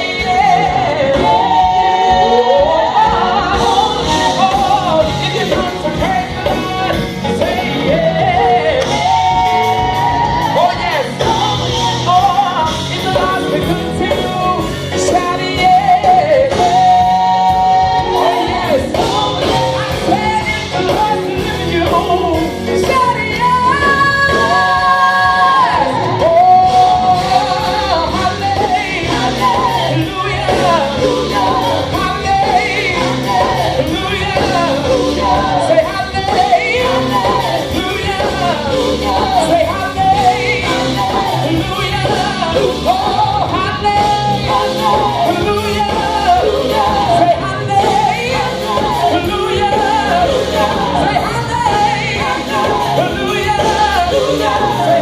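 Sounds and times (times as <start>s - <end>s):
band and singers performing: 0.0s - 55.0s.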